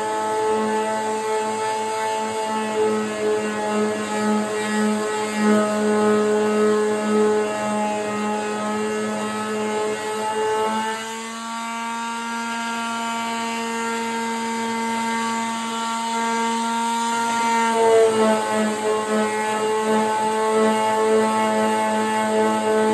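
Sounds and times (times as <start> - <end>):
electric sander running: 0.0 - 22.9.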